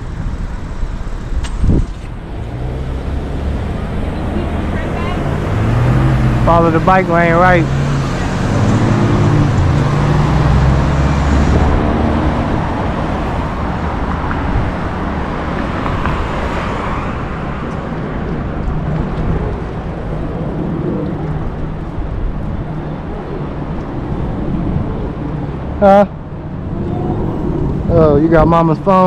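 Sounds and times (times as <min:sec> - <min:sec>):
traffic rushing: 0:00.0 - 0:29.0
vehicle engine running close by: 0:00.0 - 0:29.0
wind noise: 0:00.0 - 0:29.0.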